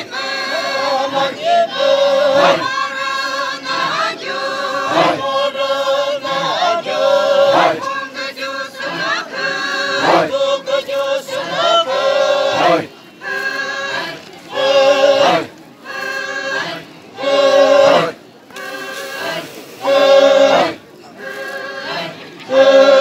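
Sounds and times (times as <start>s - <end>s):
group chanting in unison: 0.0s - 23.0s.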